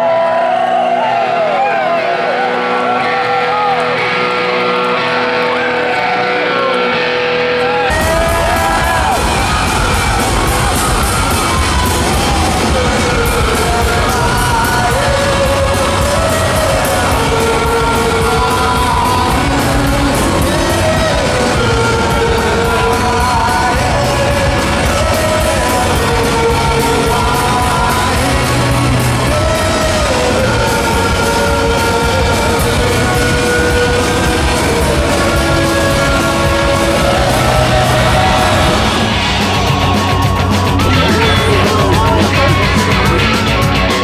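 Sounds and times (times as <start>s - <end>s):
loud rock music: 0.0s - 44.0s
driving drum beat: 7.9s - 44.0s.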